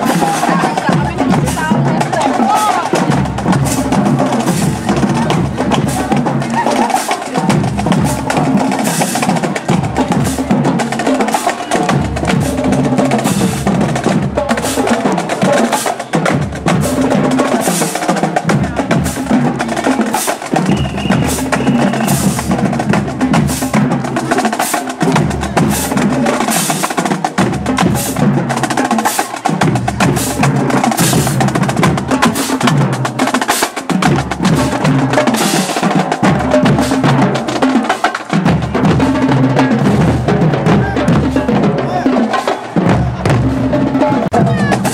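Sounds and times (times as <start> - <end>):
marching drums: 0.0 - 44.9.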